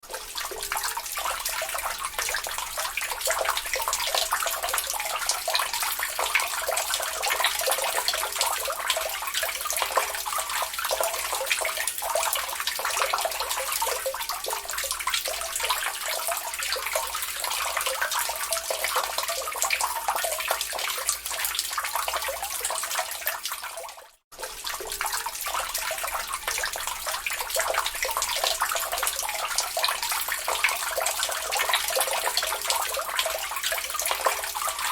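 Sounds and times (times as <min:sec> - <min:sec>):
water dripping into a lake: 0:00.0 - 0:34.9.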